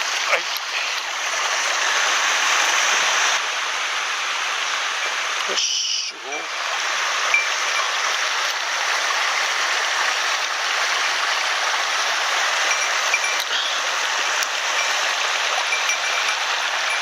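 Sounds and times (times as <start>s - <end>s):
stream rushing water: 0.0s - 17.0s.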